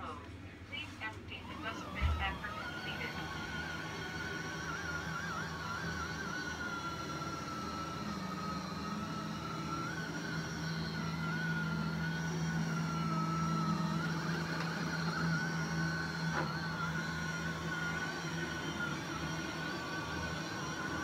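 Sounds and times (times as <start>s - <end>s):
robot vacuum motor whine: 1.4s - 21.0s.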